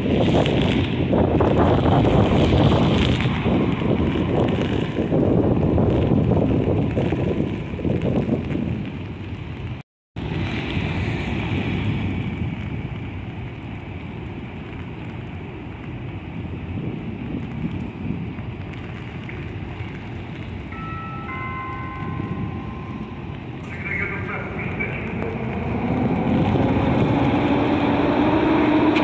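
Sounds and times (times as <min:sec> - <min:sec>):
rain hissing: 0:00.0 - 0:29.0
wind buffeting the microphone: 0:00.0 - 0:29.0.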